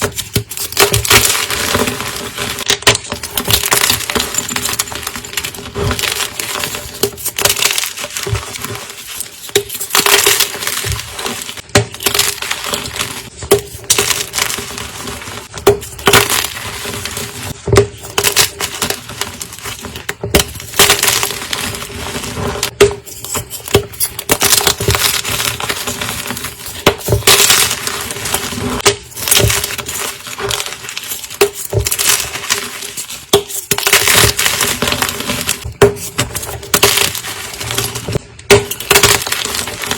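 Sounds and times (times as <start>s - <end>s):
chalk crushing and crumbling: 0.0s - 39.9s.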